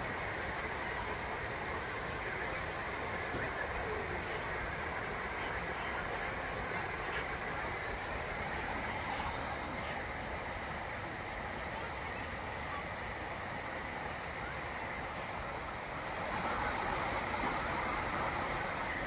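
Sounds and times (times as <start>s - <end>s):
waterfall rushing into pool: 0.0s - 19.0s.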